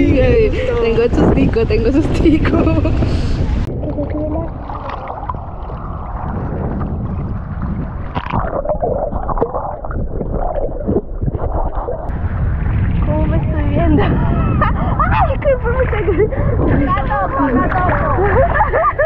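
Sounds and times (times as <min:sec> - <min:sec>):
underwater gurgling and sloshing: 0:00.0 - 0:19.0.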